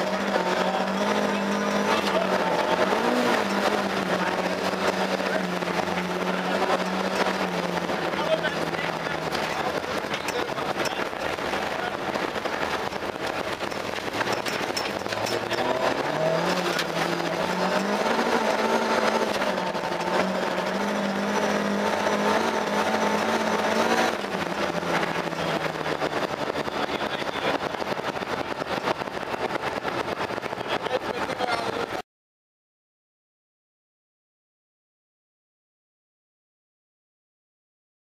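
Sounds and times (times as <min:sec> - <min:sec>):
car engine revving hard: 0:00.0 - 0:32.0
tyres on gravel: 0:00.0 - 0:32.0.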